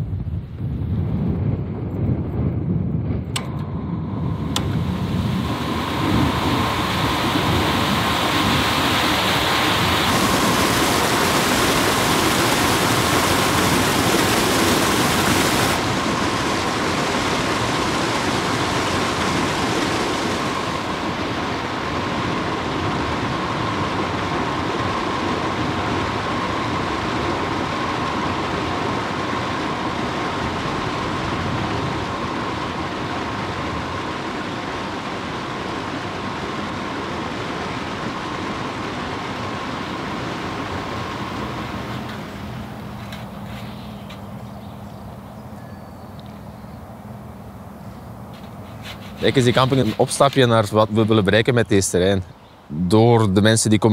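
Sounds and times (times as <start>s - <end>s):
electric motor whine: 3.2s - 51.3s
loud continuous hiss: 3.3s - 53.9s.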